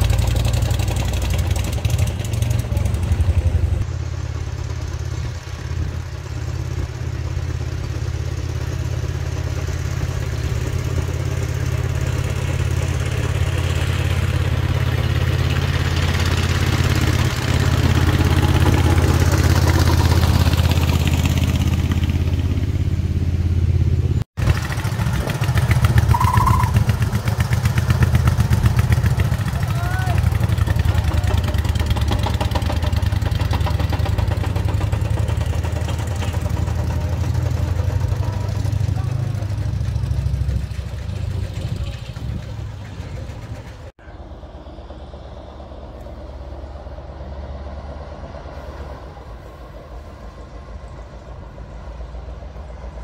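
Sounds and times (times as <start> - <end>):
rail trolley engine running: 0.0 - 53.0.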